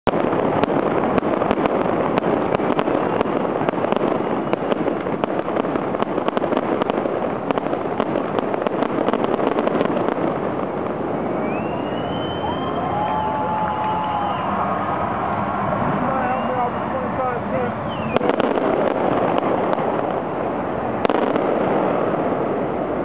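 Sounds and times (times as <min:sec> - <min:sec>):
fireworks crackling and banging: 0:00.0 - 0:23.0
steady rushing noise: 0:00.0 - 0:23.0.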